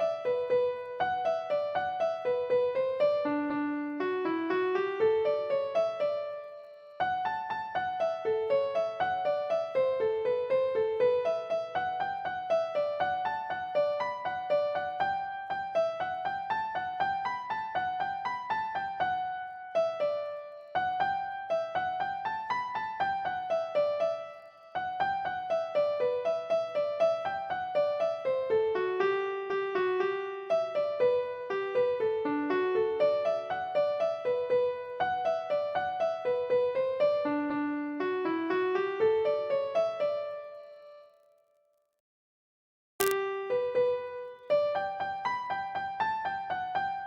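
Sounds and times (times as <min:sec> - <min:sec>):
background piano music: 0:00.0 - 0:41.4, 0:43.0 - 0:47.0.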